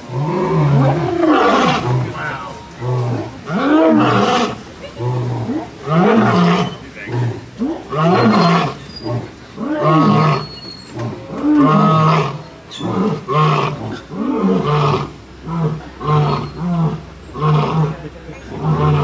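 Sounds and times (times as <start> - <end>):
lion roaring: 0.1 - 19.0.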